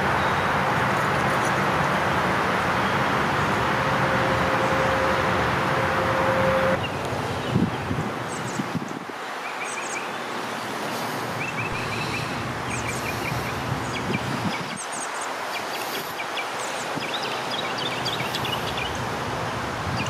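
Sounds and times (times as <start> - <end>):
birds chirping: 2.7 - 20.0.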